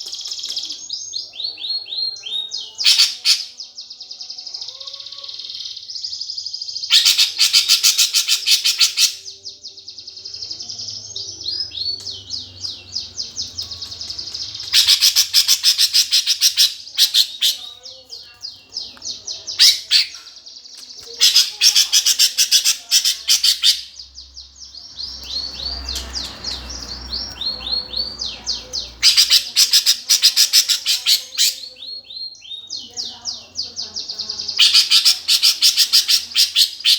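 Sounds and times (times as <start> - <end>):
sparrows chirping rapidly: 0.0 - 36.9.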